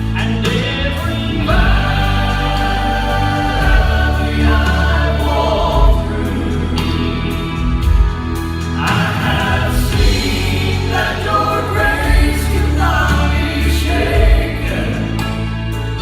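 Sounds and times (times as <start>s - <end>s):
musical accompaniment: 0.0s - 16.0s
quartet singing in harmony: 0.0s - 16.0s.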